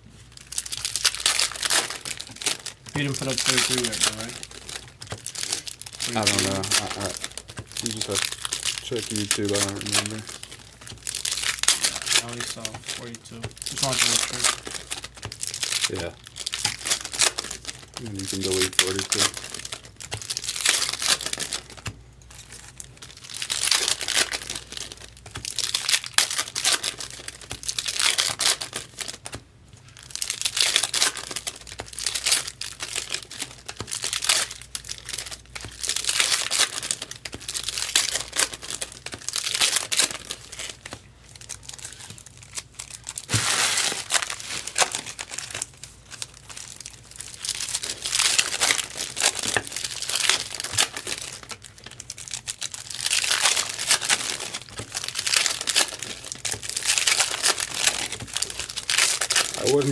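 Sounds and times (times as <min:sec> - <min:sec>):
foil wrappers crinkling and tearing: 0:00.2 - 0:59.9.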